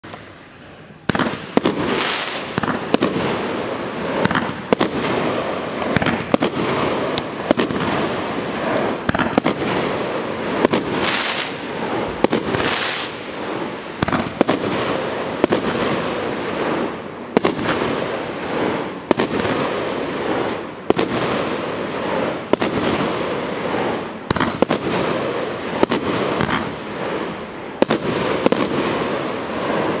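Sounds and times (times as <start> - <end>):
fireworks rushing noise: 0.0 - 30.0
fireworks sharp bangs: 0.0 - 30.0.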